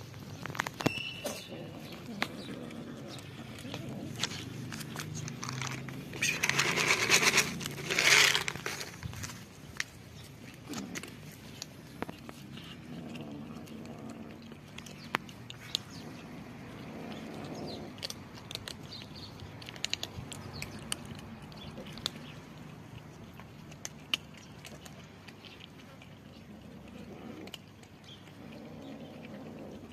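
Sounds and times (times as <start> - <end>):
kittens crunching dry kibble: 0.0 - 29.9.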